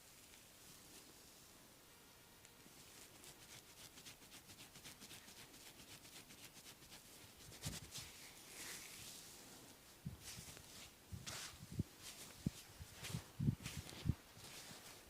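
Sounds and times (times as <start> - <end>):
hand massage strokes on skin: 2.6 - 15.0.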